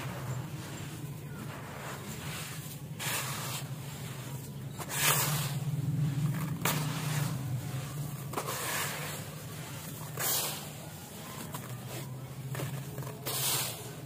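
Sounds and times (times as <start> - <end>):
sand falling into plastic tub: 0.0 - 14.0.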